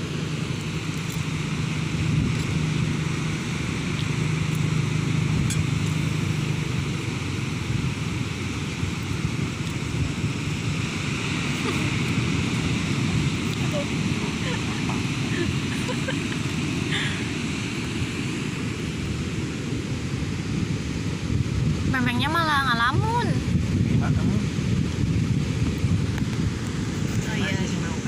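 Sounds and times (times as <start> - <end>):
surf rushing on beach: 0.0 - 28.0
wind buffeting microphone: 0.0 - 28.0.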